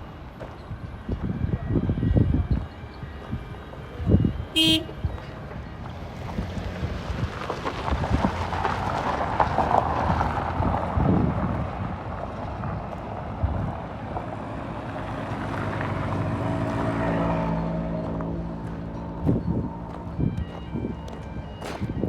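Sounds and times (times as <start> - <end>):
engine humming: 0.0 - 22.0
wind buffeting microphone: 0.0 - 22.0.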